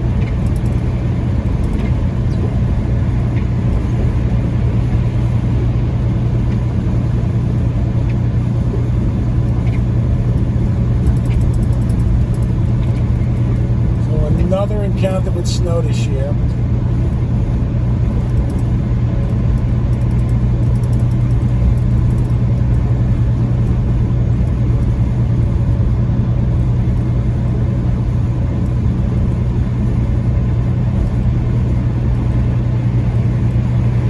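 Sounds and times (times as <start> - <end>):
diesel truck engine humming: 0.0 - 34.0
tyres rumbling on snowy road: 0.0 - 34.0.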